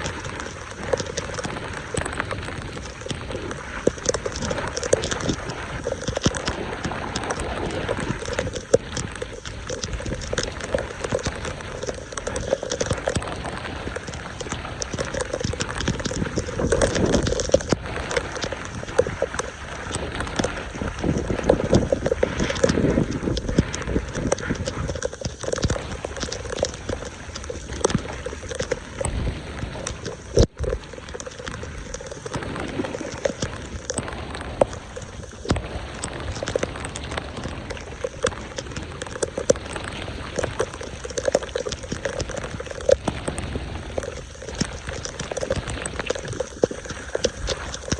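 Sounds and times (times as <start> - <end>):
floodwater splashing and sloshing: 0.0 - 47.9
water drips and plops: 0.0 - 47.9.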